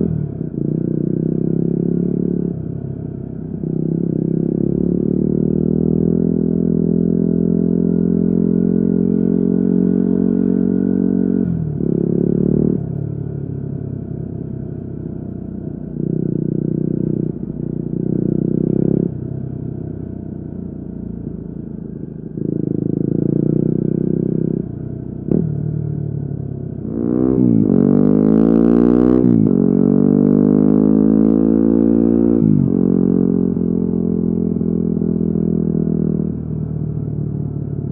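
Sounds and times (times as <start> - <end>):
motorcycle engine revving: 0.0 - 14.0, 15.6 - 37.9.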